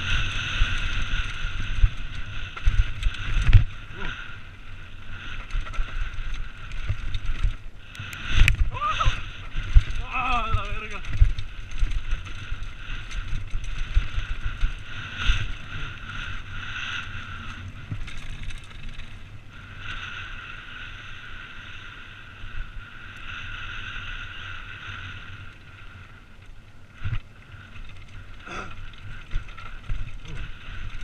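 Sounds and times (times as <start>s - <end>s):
bike rattling over stones: 0.0s - 31.0s
wind rumble on microphone: 0.0s - 31.0s.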